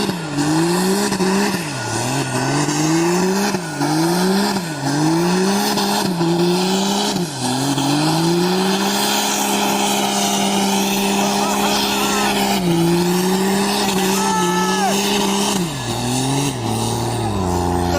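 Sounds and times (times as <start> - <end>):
diesel truck engine revving: 0.0 - 17.9.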